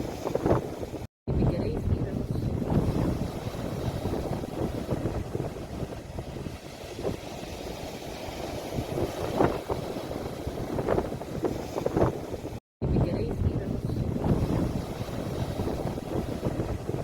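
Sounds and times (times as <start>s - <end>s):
sea waves washing: 0.0s - 17.0s
wave splashes: 0.0s - 17.0s
wind rumbling on microphone: 0.0s - 17.0s.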